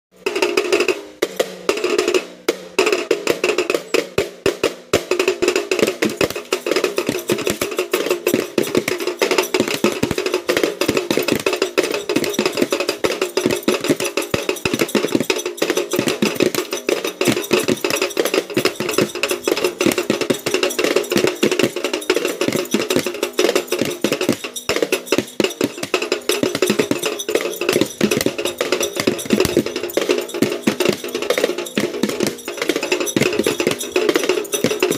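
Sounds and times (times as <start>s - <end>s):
larger drum beaten: 0.2s - 34.9s
toy drums beaten with sticks: 0.2s - 34.9s.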